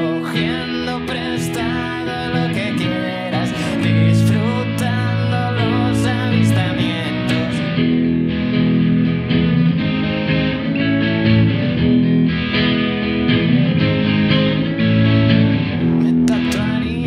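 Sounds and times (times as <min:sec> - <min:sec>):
electric guitars playing: 0:00.0 - 0:17.0.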